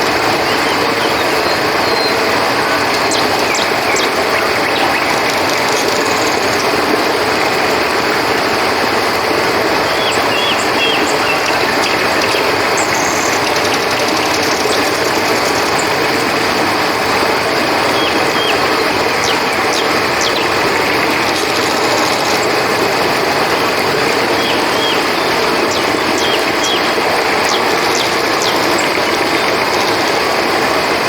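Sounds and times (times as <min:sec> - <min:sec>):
crickets trilling: 0:00.0 - 0:31.0
river water rushing: 0:00.0 - 0:31.0.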